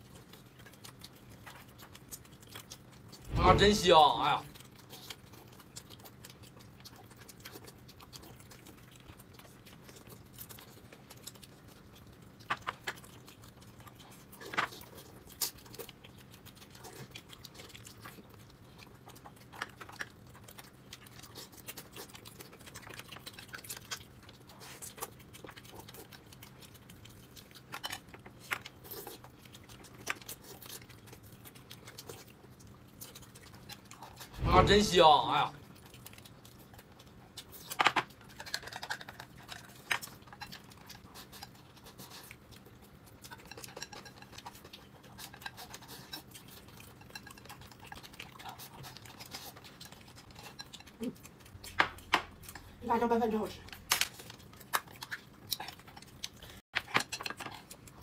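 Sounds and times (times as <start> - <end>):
chewing clicks and smacks: 0.0 - 3.4, 4.5 - 34.4, 35.6 - 52.8, 53.4 - 58.0.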